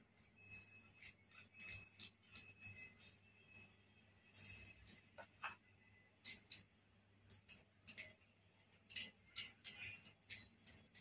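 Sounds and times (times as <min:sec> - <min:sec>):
light metallic clicks and clinks: 0:00.4 - 0:03.2, 0:04.5 - 0:11.0.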